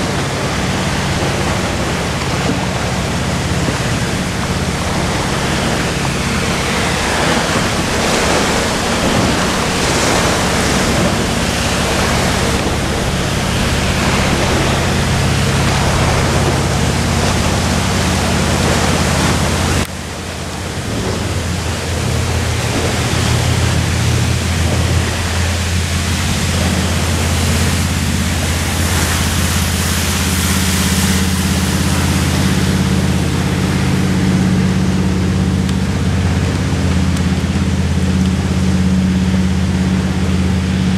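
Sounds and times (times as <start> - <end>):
boat engine low drone: 0.0 - 40.9
water cannon rushing hiss: 0.0 - 40.9.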